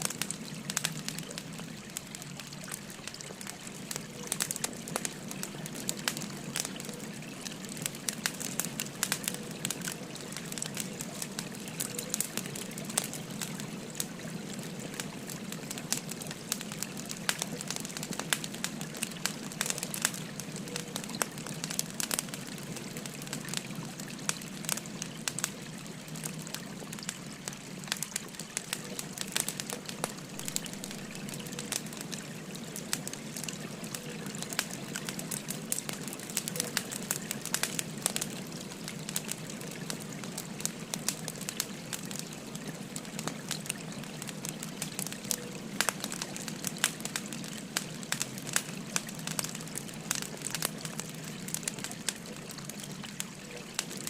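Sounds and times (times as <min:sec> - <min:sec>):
firewood crackling and popping: 0:00.0 - 0:54.0
flowing stream: 0:00.0 - 0:54.0.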